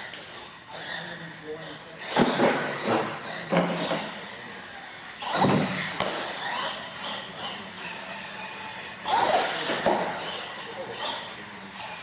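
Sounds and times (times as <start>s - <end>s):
toy truck motor and tyres surging: 0.0s - 12.0s.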